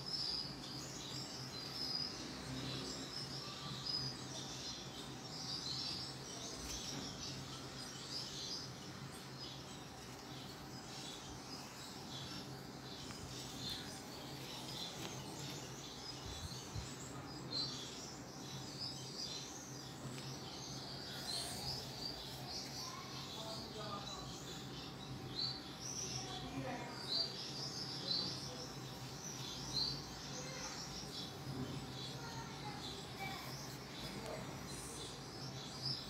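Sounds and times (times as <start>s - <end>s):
faint low hum: 0.0s - 36.0s
finches chirping: 0.0s - 36.0s.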